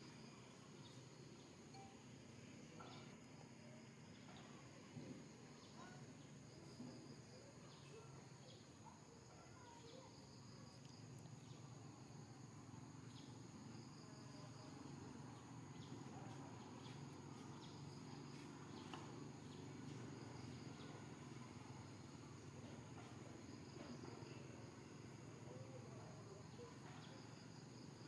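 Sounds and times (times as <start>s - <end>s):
high insect hum: 0.0s - 28.0s.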